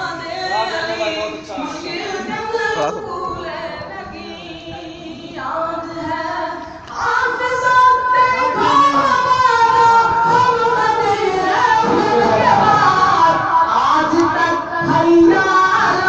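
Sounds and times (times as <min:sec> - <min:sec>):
person singing into a microphone: 0:00.0 - 0:16.0.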